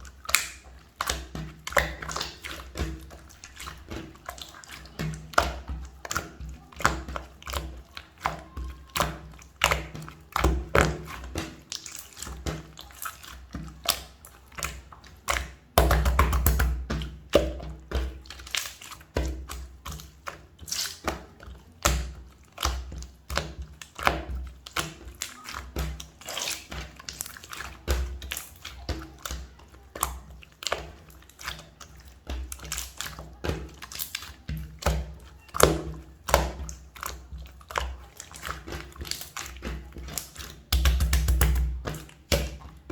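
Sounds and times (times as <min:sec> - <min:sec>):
slime squishing: 0:00.0 - 0:42.9.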